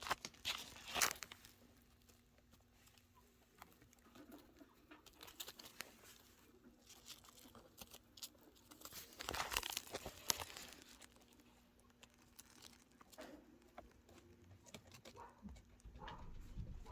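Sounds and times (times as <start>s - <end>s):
chinchillas scrabbling and rustling: 0.0s - 16.9s.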